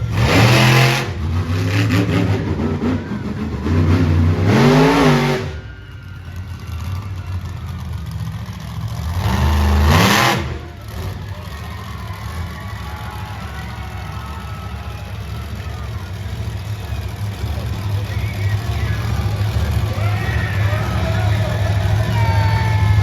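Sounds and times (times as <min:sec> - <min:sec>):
monster truck engine revving: 0:00.0 - 0:23.0.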